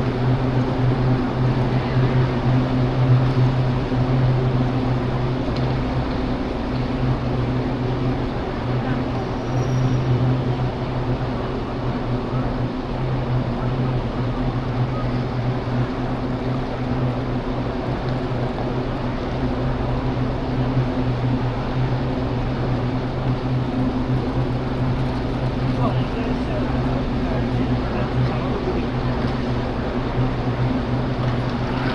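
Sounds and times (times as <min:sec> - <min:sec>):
low mechanical hum: 0:00.0 - 0:31.9.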